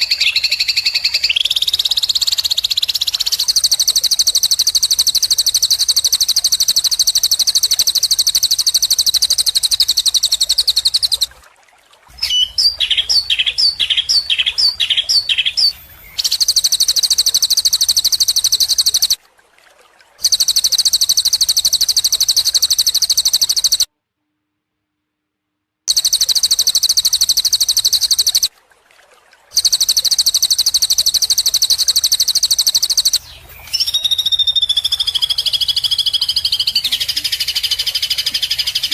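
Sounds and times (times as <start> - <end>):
slurred whistled bird notes: 0.0 - 11.3, 12.2 - 19.2, 20.2 - 23.9, 25.9 - 28.5, 29.5 - 38.9
songbird buzzy trill: 0.0 - 11.3, 12.1 - 19.2, 20.2 - 23.9, 25.9 - 28.5, 29.5 - 38.9.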